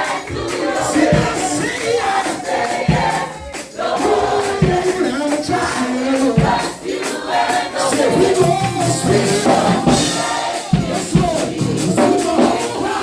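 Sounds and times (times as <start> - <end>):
band with steady drum beat: 0.0 - 13.0
voices singing together: 0.0 - 13.0.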